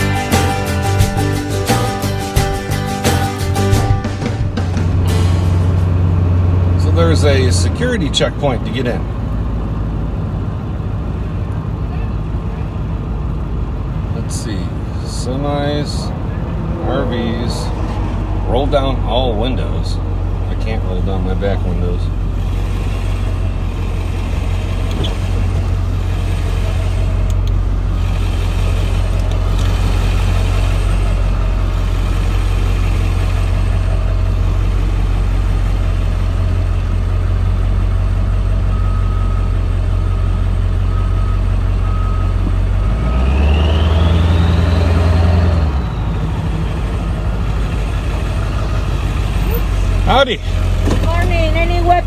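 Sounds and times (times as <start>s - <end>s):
engine running from inside cab: 0.0s - 52.0s.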